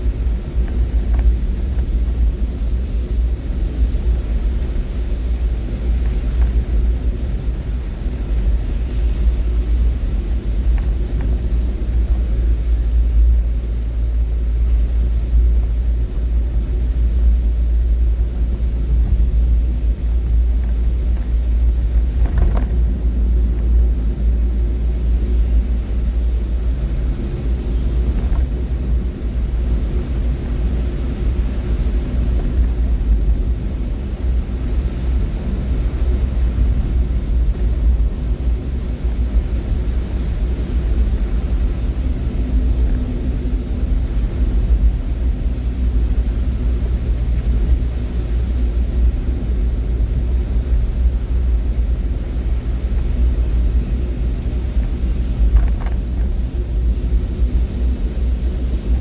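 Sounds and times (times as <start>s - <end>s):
vehicle road and engine rumble: 0.0s - 59.0s.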